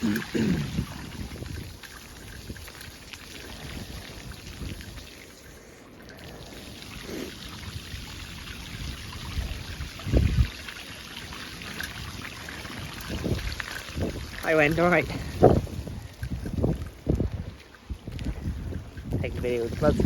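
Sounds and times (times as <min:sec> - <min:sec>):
wind rumble on microphone: 0:00.0 - 0:05.2, 0:07.7 - 0:10.7, 0:11.7 - 0:20.0
water splashing and trickling: 0:00.0 - 0:20.0.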